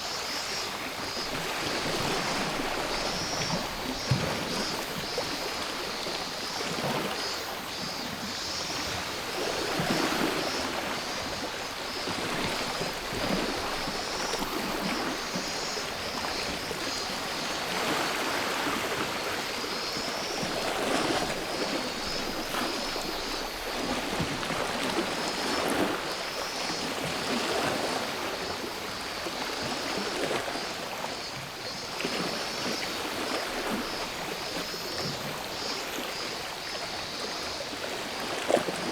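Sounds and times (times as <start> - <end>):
cicadas buzzing: 0.0 - 38.2
sea waves breaking on shore: 0.0 - 38.9.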